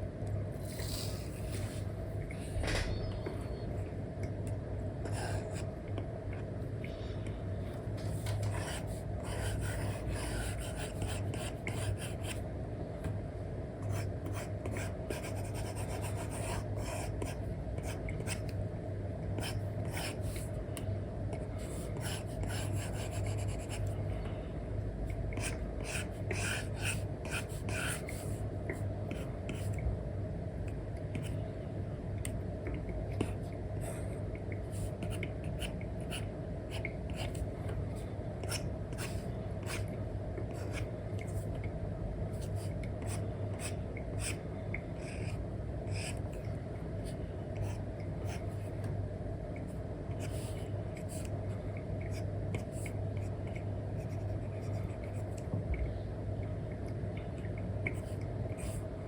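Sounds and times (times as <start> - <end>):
low background noise: 0.0 - 59.0.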